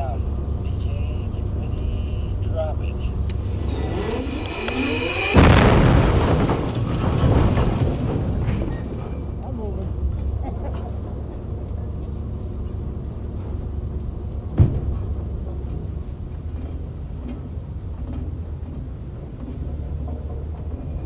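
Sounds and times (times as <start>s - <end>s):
crane engine rumbling: 0.0s - 21.0s.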